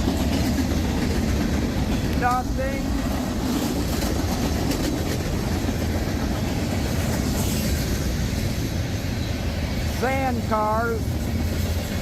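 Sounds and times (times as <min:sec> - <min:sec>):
train wheels rumbling on rails: 0:00.0 - 0:12.0
wheels clicking over rail joints: 0:00.0 - 0:12.0.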